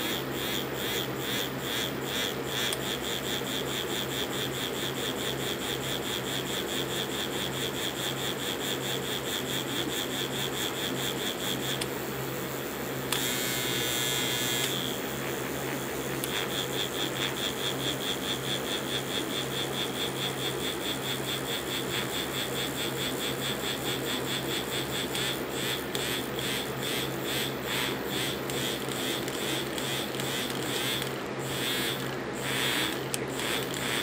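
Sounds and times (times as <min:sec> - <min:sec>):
vibrators buzzing and pulsing: 0:00.0 - 0:34.0.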